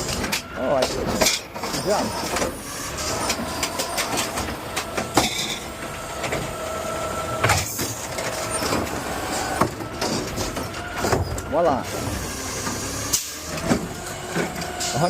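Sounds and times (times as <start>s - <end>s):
hydraulic arm whining: 0.0s - 15.0s.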